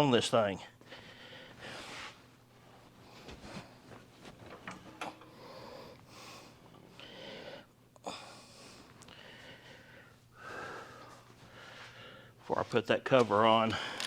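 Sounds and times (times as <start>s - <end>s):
soft rustling hiss: 0.0s - 14.0s.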